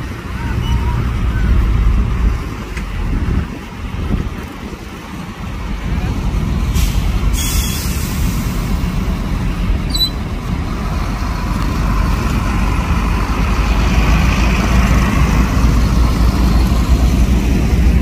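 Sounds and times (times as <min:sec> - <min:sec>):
diesel truck engines: 0:00.0 - 0:18.0.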